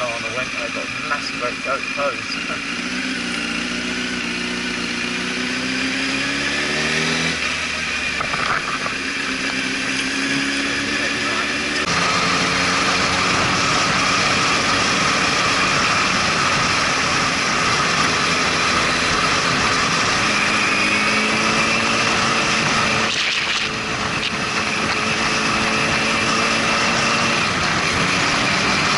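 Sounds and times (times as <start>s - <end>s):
motorcycle engine running: 0.0s - 28.9s
wind rush of riding: 2.3s - 28.9s.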